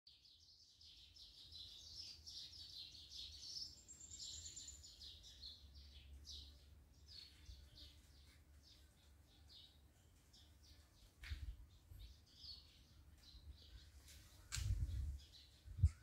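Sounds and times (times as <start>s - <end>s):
songbirds chirping: 0.1s - 16.0s.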